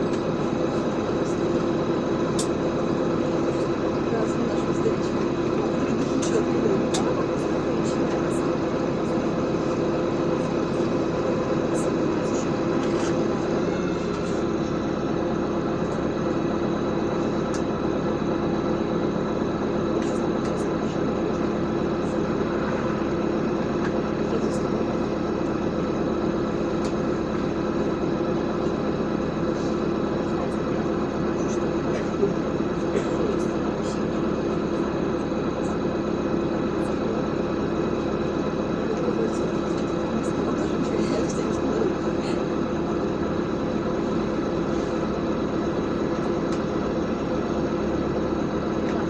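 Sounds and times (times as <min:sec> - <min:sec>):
bus engine running: 0:00.0 - 0:49.0
road noise: 0:00.0 - 0:49.0.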